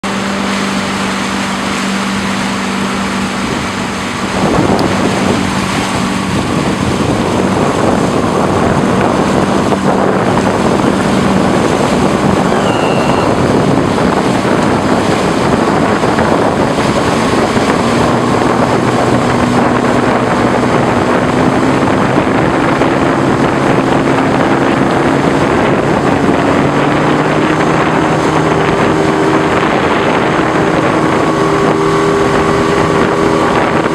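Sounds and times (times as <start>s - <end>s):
motorboat engine: 0.0s - 33.9s
wind on microphone: 0.0s - 33.9s.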